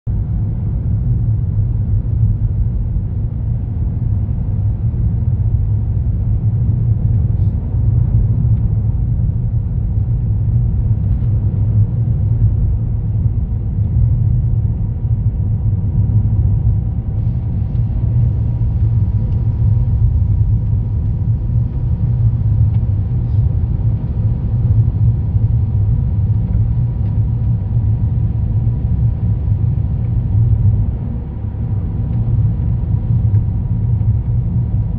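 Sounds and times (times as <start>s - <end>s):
faint steady whine: 0.1s - 34.9s.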